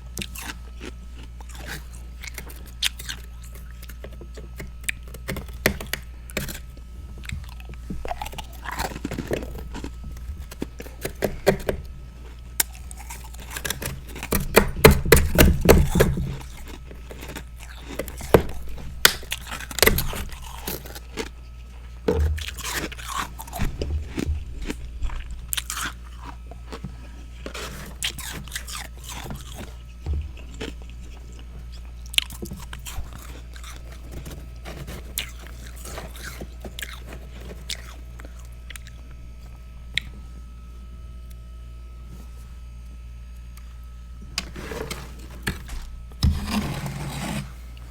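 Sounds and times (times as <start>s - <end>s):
mouth crunching ice: 0.1s - 39.0s.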